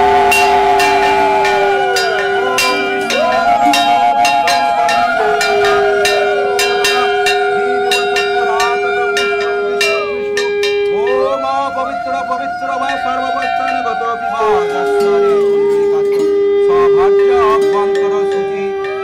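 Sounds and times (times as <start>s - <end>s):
hand bell ringing: 0.0s - 11.5s, 12.8s - 16.4s, 17.3s - 19.0s
conch shells blown: 0.0s - 19.0s.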